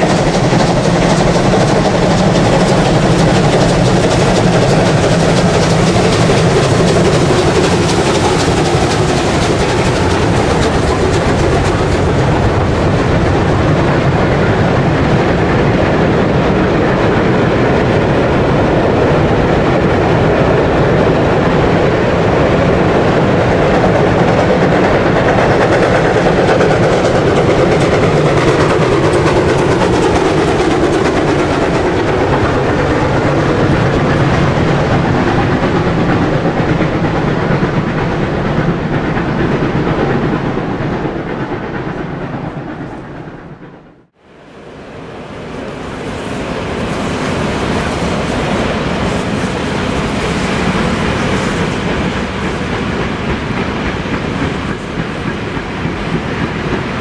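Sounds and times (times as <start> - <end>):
train wheels clattering over rail joints: 0.0 - 16.0, 20.9 - 43.0, 46.7 - 57.0
steam locomotive passing: 0.0 - 57.0.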